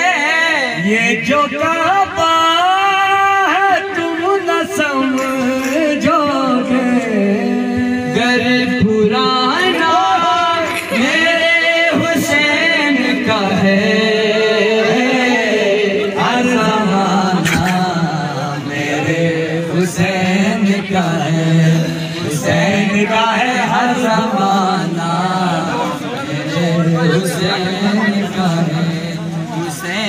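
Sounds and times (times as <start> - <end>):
man singing into microphone: 0.0 - 30.0.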